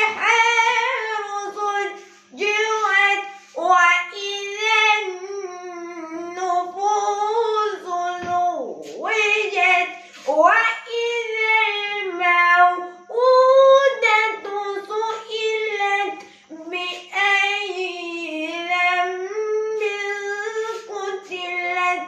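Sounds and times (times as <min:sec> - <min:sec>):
boy chanting: 0:00.0 - 0:22.0.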